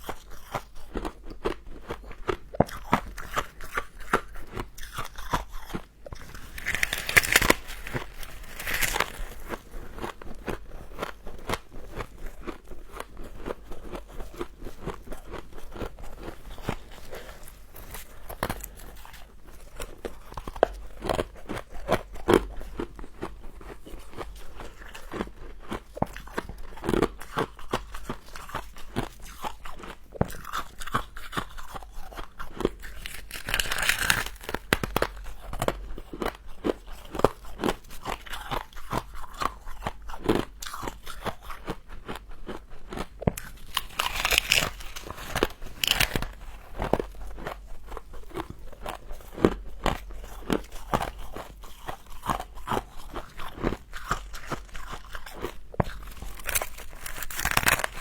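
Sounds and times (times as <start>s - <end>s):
chewing crunchy frost: 0.0s - 58.0s.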